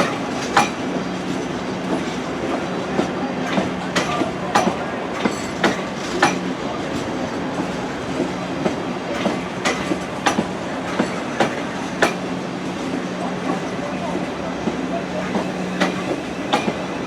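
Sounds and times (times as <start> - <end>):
train wheels clicking over rail joints: 0.0 - 13.9, 14.6 - 17.0.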